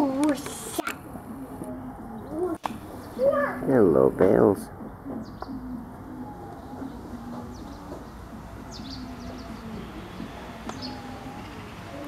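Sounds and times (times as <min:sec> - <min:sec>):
pigeons cooing: 0:00.0 - 0:12.0
small birds chirping: 0:00.0 - 0:12.0
steady low rumble: 0:01.0 - 0:12.0.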